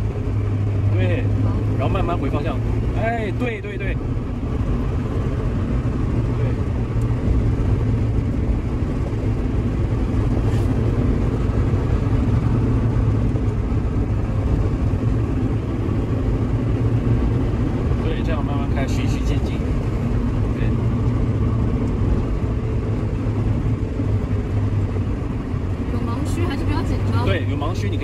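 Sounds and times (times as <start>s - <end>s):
car engine rumble from inside: 0.0s - 28.0s
tyre and road noise: 0.0s - 28.0s.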